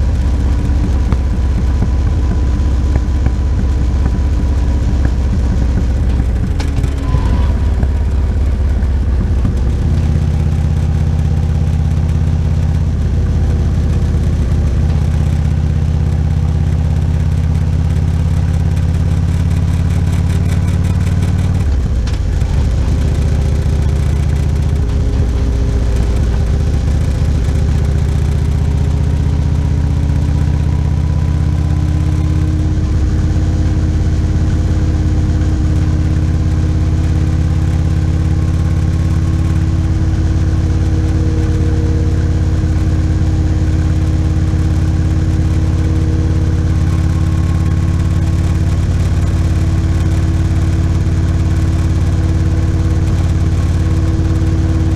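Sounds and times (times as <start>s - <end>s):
motorcycle engine cruising: 0.0s - 54.9s.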